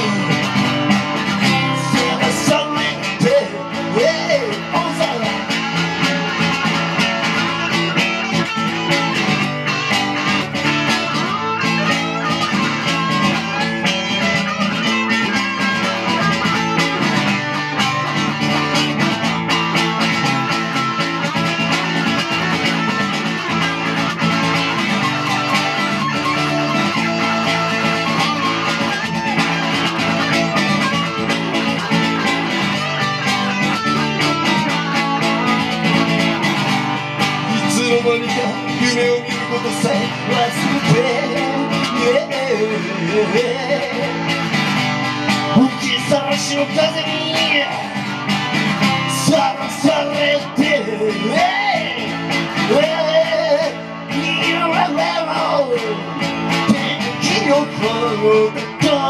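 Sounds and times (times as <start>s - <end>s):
plucked guitar playing: 0.0s - 59.0s.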